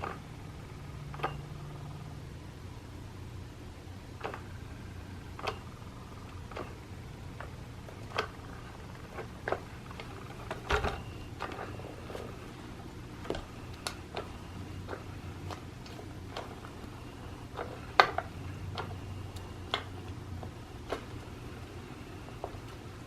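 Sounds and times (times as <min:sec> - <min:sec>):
motorised toy humming: 0:00.0 - 0:23.0
clicks from moving parts: 0:01.0 - 0:01.8, 0:04.2 - 0:04.6, 0:05.3 - 0:23.0.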